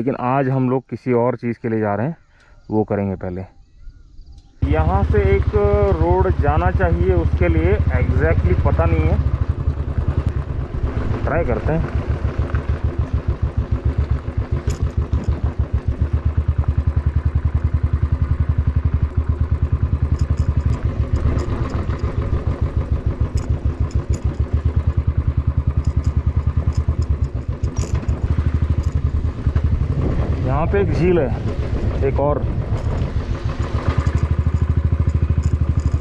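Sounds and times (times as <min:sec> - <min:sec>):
motorcycle engine thumping: 0:04.6 - 0:36.0.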